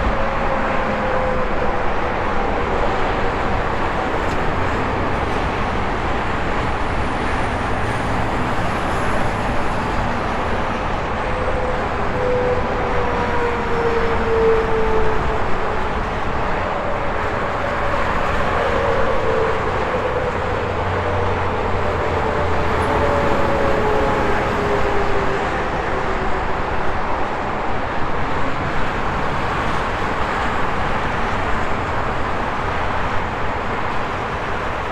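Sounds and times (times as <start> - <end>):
highway traffic roar: 0.0 - 34.9.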